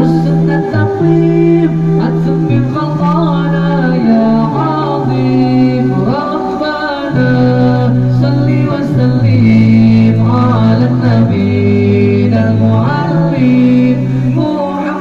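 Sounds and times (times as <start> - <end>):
men singing a cappella: 0.0 - 15.0.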